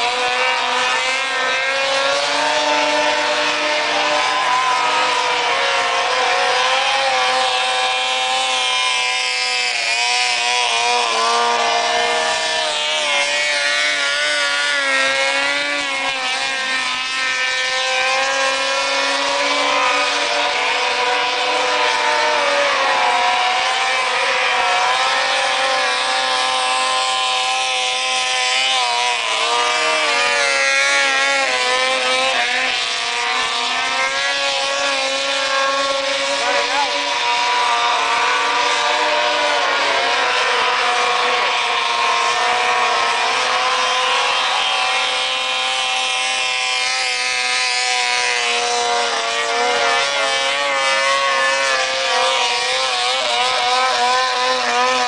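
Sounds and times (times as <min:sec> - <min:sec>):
snowmobile engines revving: 0:00.0 - 0:55.0.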